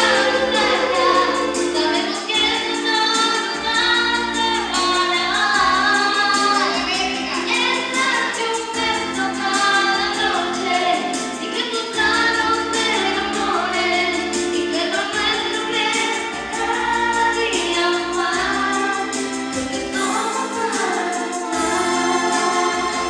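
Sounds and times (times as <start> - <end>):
keyboard chords backing music: 0.0 - 23.0
woman singing into microphone: 0.0 - 23.0.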